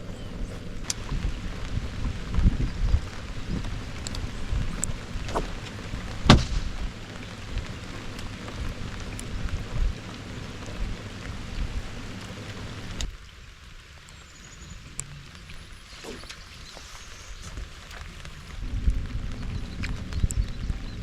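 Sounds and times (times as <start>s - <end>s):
steady rain falling: 0.0s - 21.0s
wind rumble on microphone: 0.0s - 21.0s.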